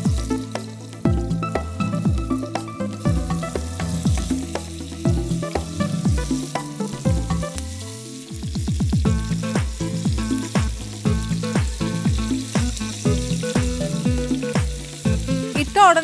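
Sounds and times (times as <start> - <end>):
chicken sizzling in a pan: 0.0 - 16.0
electronic background music: 0.0 - 16.0.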